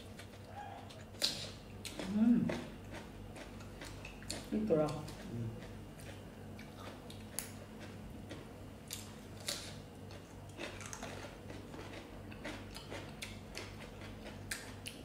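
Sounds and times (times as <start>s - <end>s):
crunching raw vegetables: 0.0s - 15.0s
low steady hum: 0.0s - 15.0s.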